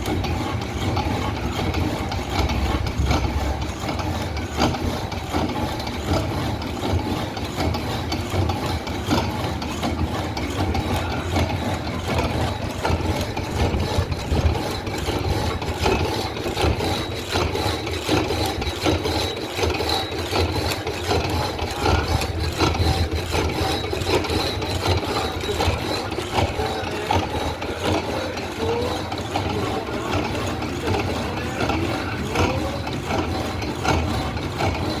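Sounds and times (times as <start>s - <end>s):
band saw cutting steel: 0.0s - 35.0s.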